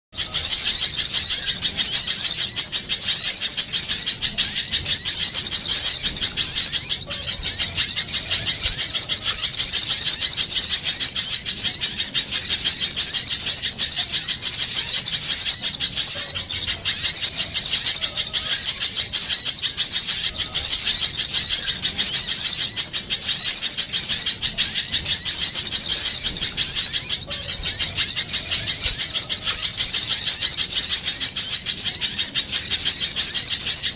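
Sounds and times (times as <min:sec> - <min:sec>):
small songbirds twittering: 0:00.1 - 0:33.9.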